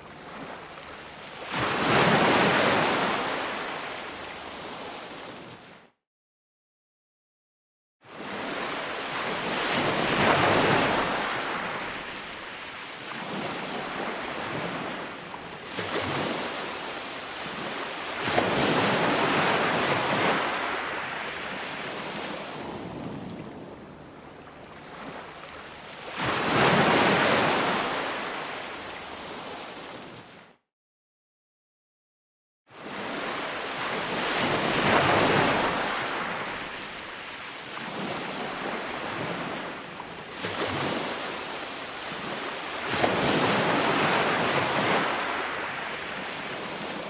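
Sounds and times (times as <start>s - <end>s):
ocean waves breaking on shore: 0.0s - 5.8s, 8.0s - 30.6s, 32.7s - 47.0s.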